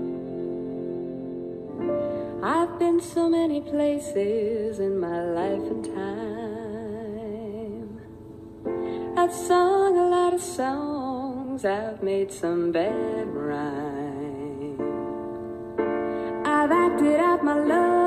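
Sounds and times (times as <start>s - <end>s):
slow gentle sung melody: 0.0s - 18.0s
soft sustained accompaniment: 0.0s - 18.0s.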